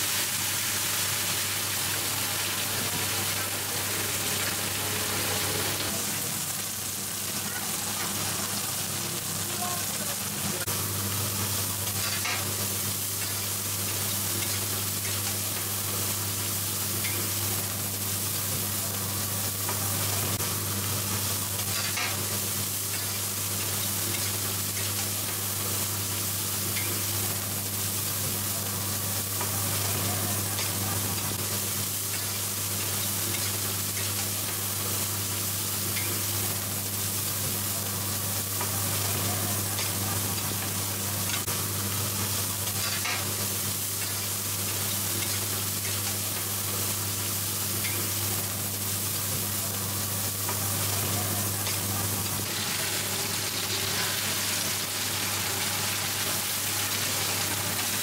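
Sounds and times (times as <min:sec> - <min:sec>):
batter sizzling in hot oil: 0:00.0 - 0:58.0.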